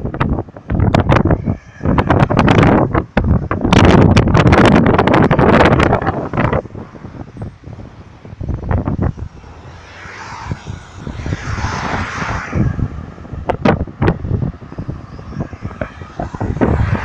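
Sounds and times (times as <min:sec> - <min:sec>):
car passing on highway: 0:00.0 - 0:17.0
wind buffeting microphone: 0:00.0 - 0:17.0.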